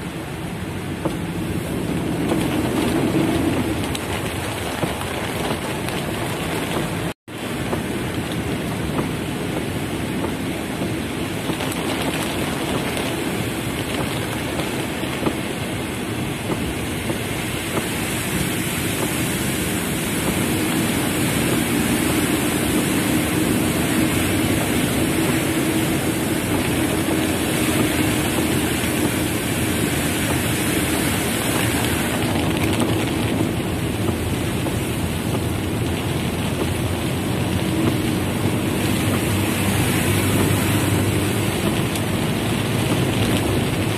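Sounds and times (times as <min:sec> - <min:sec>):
heavy rain on car roof: 0:00.0 - 0:43.9.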